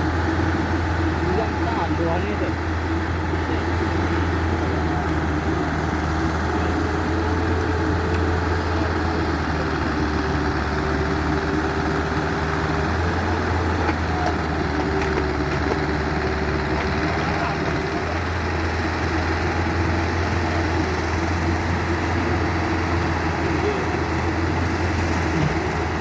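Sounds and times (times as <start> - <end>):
diesel engine running: 0.0 - 26.0
faint engine whine: 0.0 - 26.0.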